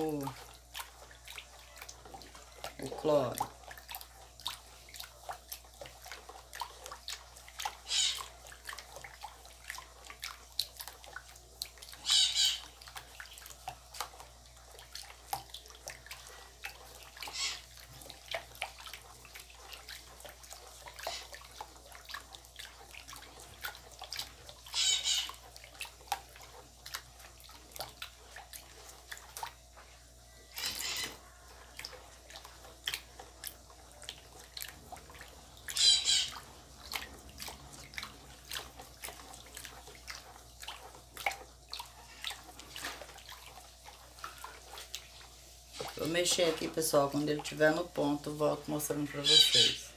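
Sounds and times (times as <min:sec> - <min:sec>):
utensil stirring thick mixture: 0:00.0 - 0:49.9.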